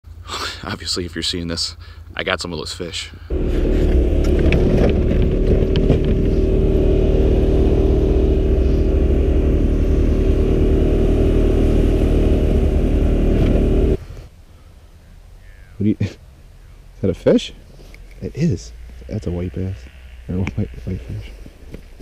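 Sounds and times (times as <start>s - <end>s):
vehicle engine low rumble: 3.3s - 22.0s.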